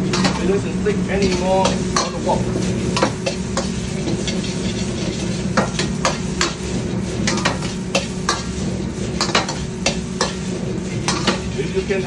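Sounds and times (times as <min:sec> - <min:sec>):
rice sizzling in a wok: 0:00.0 - 0:12.0
steady low hum: 0:00.0 - 0:12.0
utensil scraping a wok: 0:00.0 - 0:12.0.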